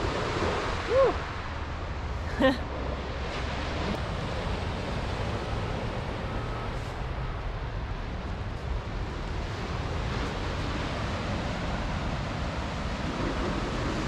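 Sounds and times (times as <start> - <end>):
wind on microphone: 0.0 - 6.3, 8.4 - 14.0.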